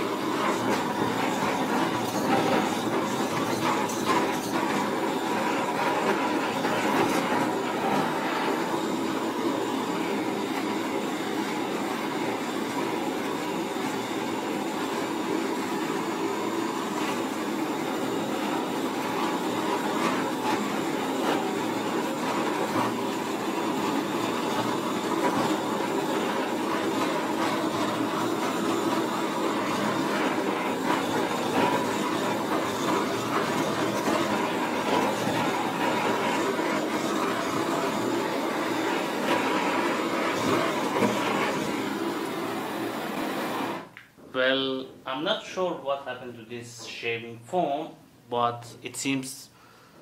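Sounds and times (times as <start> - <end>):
gas torch hissing: 0.0 - 44.1.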